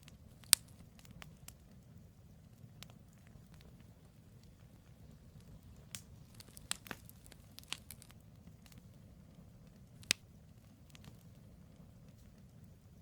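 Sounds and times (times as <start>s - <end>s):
campfire crackling and popping: 0.0s - 13.0s
low steady rumble: 0.0s - 13.0s.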